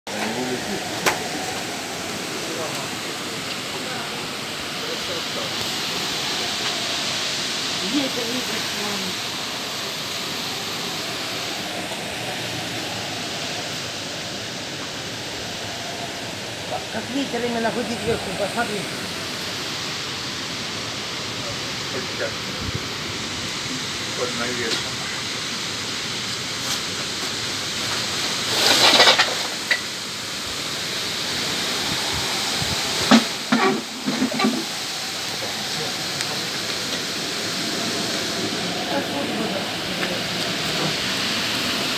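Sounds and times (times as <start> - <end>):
wind rushing through trees: 0.1 - 41.9.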